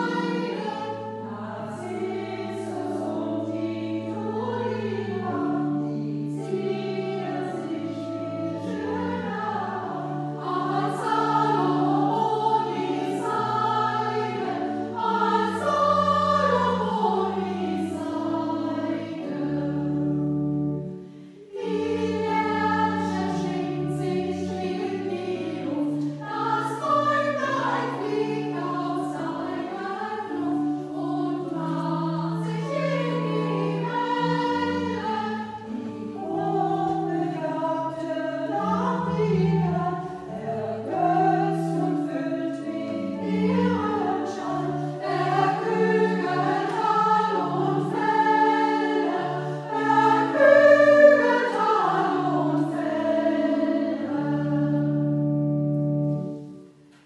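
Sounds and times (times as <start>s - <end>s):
choir singing sacred music: 0.0s - 57.0s.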